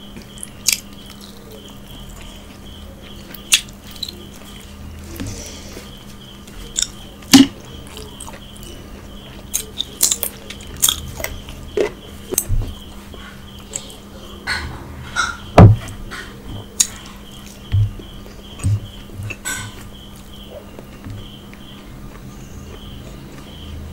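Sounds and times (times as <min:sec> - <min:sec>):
close chewing: 0:00.2 - 0:14.0, 0:16.7 - 0:23.9.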